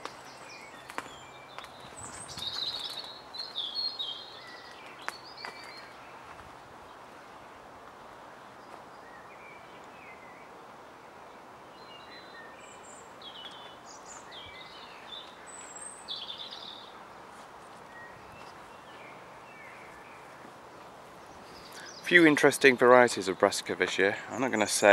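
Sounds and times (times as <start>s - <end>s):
outdoor background hiss: 0.0s - 24.9s
small birds chirping: 0.0s - 24.9s.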